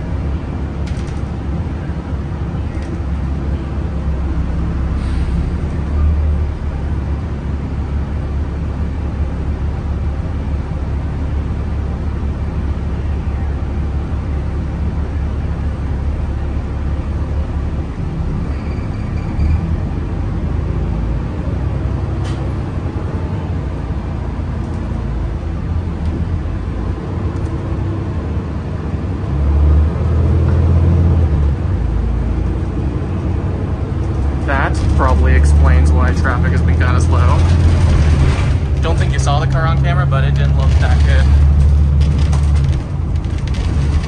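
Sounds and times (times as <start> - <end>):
road traffic rumbling: 0.0 - 44.0.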